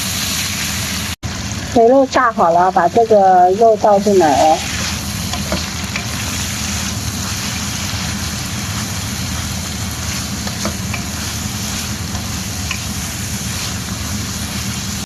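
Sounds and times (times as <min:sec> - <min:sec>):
meat sizzling in fat: 0:00.0 - 0:15.0.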